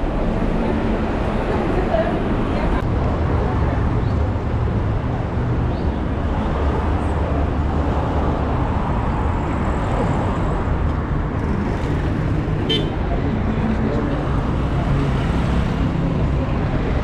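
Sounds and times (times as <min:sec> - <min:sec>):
road noise: 0:00.0 - 0:17.0
vehicle engines rumbling: 0:00.0 - 0:17.0.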